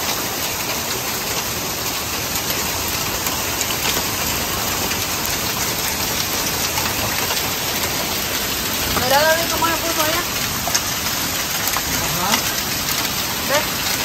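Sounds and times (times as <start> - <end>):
hailstones ticking: 0.0 - 14.0
heavy rain hissing: 0.0 - 14.0.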